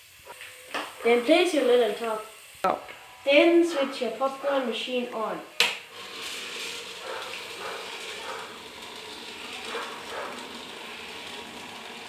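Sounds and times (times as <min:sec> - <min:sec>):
popcorn maker whirring: 0:00.0 - 0:12.0.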